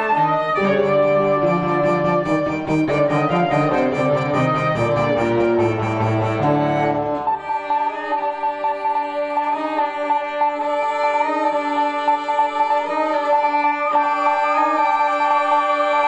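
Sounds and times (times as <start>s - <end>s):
instrumental ensemble music: 0.0s - 16.0s.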